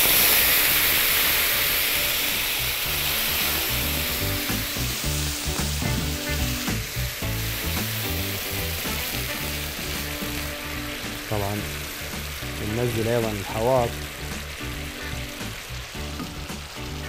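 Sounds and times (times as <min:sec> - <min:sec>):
water sizzling in a hot pot: 0:00.0 - 0:17.0
background music: 0:00.7 - 0:17.0.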